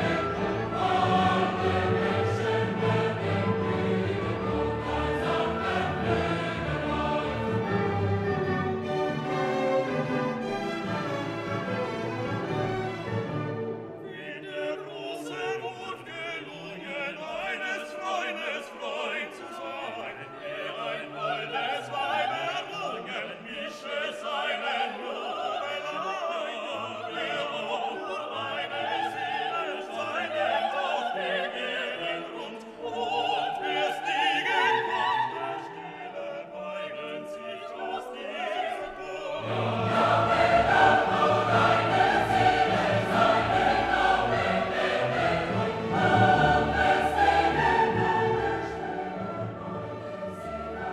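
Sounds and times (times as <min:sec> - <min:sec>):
choir singing: 0:00.0 - 0:50.9
operatic singing with orchestra: 0:00.0 - 0:50.9.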